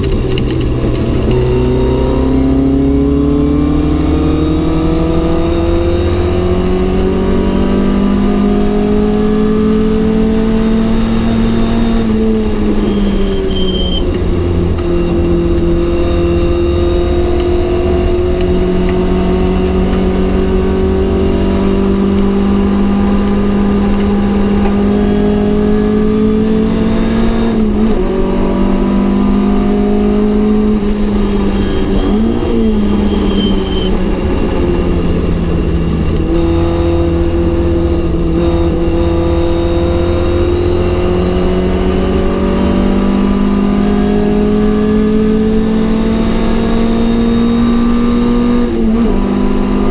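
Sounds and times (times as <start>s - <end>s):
car engine racing under load: 0.0s - 49.9s.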